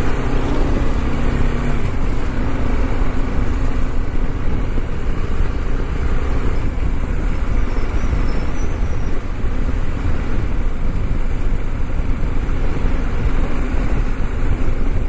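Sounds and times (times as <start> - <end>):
motorcycle engine and tyres: 0.0 - 15.0
wind rumble on microphone: 0.0 - 15.0.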